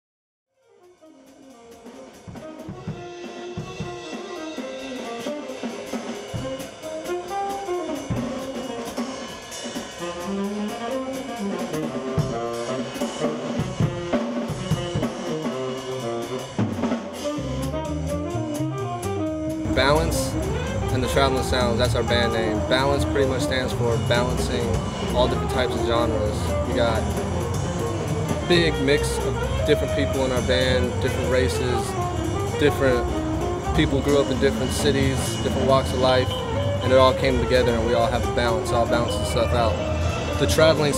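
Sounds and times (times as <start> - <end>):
instrumental jazz with drums: 0.6 - 40.9.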